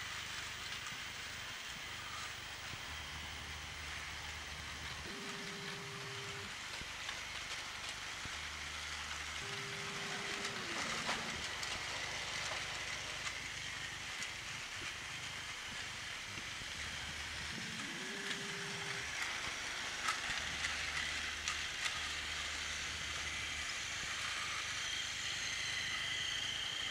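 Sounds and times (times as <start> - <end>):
light clicks of wheels on track: 0.0 - 2.8, 6.5 - 26.9
toy train motor whir: 0.0 - 26.9.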